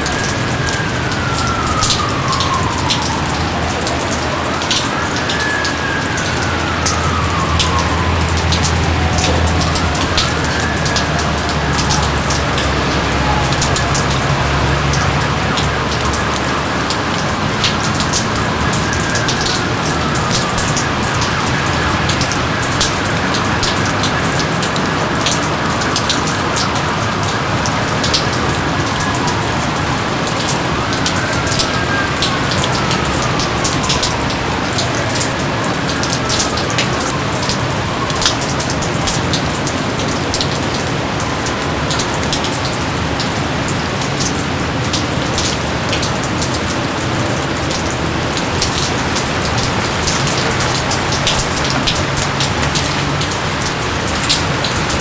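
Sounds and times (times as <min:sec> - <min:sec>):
raindrops pattering: 0:00.0 - 0:55.0
steady rain falling: 0:00.0 - 0:55.0.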